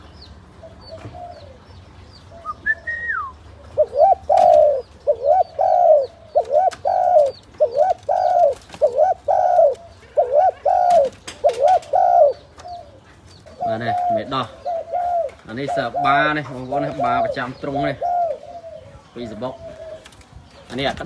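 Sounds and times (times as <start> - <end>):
dove cooing: 0.6 - 1.7, 2.3 - 21.0.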